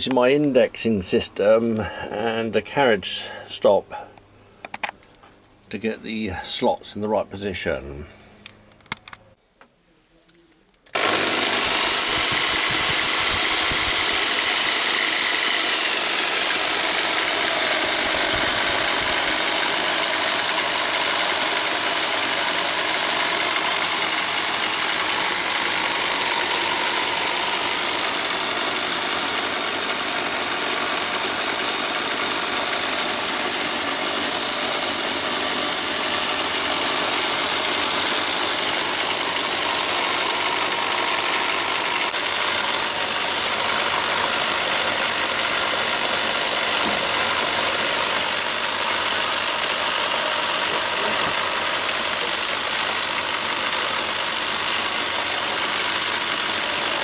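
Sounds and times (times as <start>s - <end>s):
electric drill milling brass: 10.9s - 57.0s.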